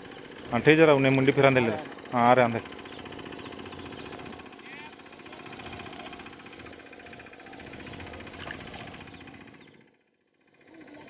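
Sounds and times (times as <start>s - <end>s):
engine running with pulsing hum: 0.0s - 11.0s.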